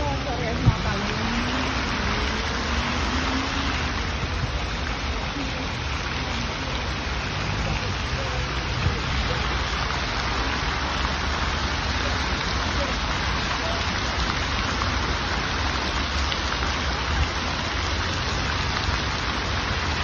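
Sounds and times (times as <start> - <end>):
fountain jets splashing into pool: 0.0 - 20.0.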